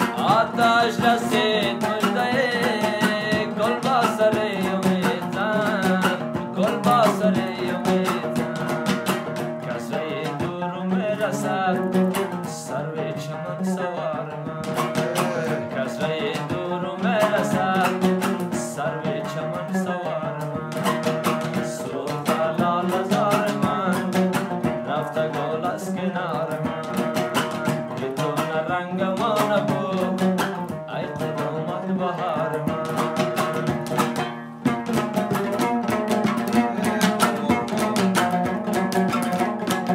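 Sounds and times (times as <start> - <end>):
lute strummed fast: 0.0 - 39.9
man singing folk song: 0.0 - 39.9.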